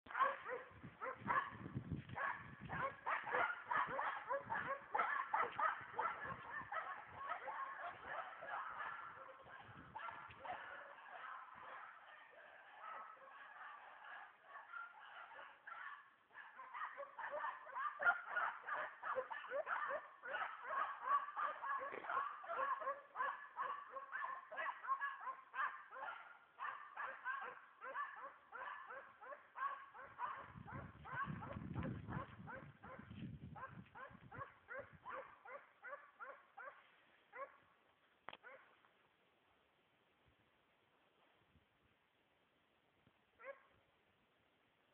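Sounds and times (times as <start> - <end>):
animals yipping and barking: 0.1 - 1.6, 2.2 - 37.6.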